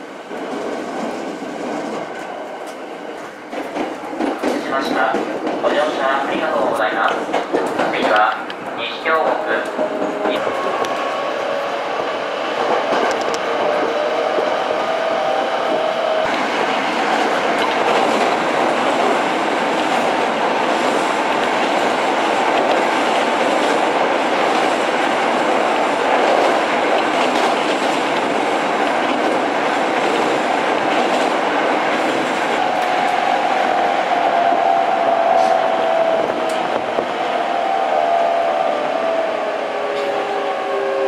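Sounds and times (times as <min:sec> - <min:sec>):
train wheels rumbling on rail: 0:00.0 - 0:41.0
rail joint clicks: 0:00.3 - 0:38.9, 0:39.8 - 0:41.0.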